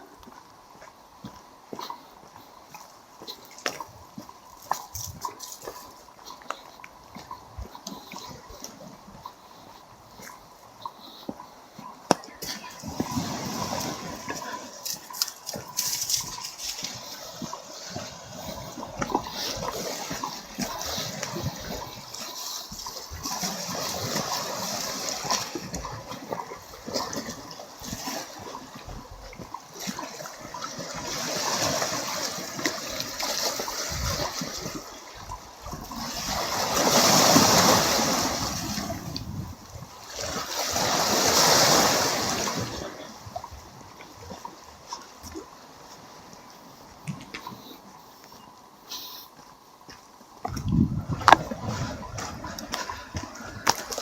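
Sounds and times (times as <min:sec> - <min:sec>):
waves splashing against shore: 0:01.3 - 0:48.0, 0:50.9 - 0:54.0.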